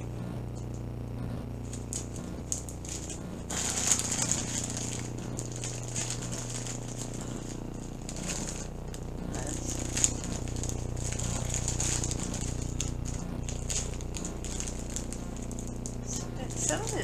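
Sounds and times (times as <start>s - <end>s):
plastic bag crinkling: 1.6s - 17.0s.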